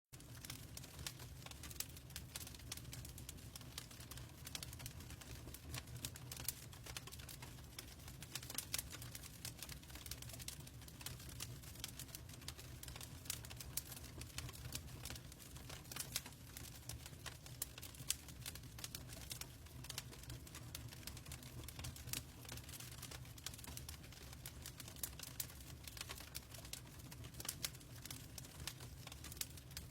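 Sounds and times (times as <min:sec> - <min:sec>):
burning wood crackling: 0:00.3 - 0:29.9.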